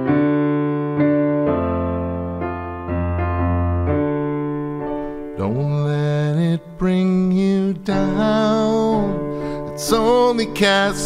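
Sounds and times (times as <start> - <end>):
electronic keyboard piano chords: 0.0 - 11.0.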